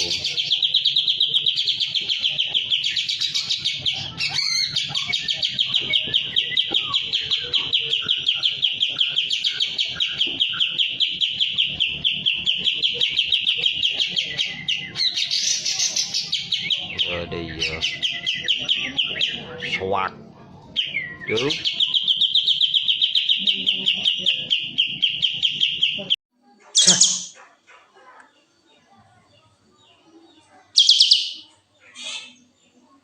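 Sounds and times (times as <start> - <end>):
songbird rapid chirping: 0.0 - 33.0.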